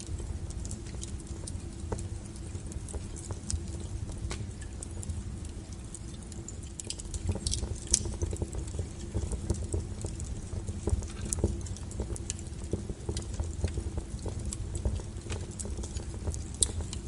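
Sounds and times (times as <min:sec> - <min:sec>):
firewood crackling and popping: 0:00.0 - 0:17.0
low steady rumble: 0:00.0 - 0:17.0.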